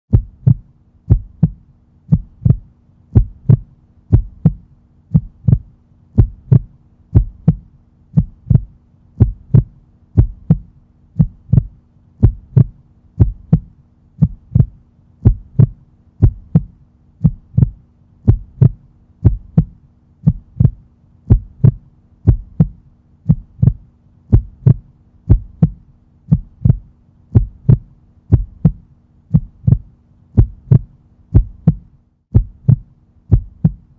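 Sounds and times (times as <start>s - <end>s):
heartbeat thumps: 0.1s - 33.9s.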